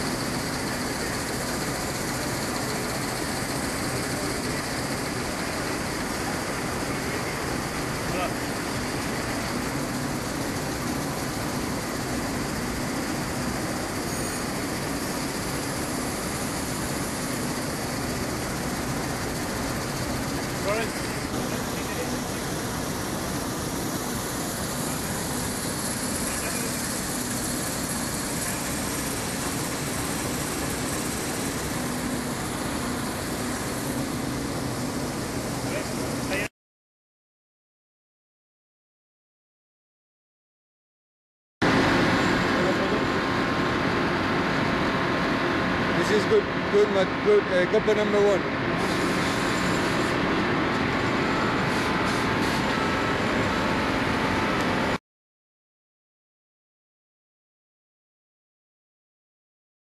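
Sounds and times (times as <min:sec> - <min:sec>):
granulating machinery running: 0:00.0 - 0:36.5, 0:41.6 - 0:55.0.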